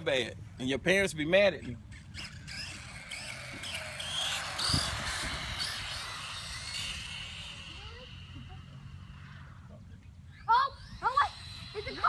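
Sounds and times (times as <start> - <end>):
electric motor whine: 1.9 - 12.0.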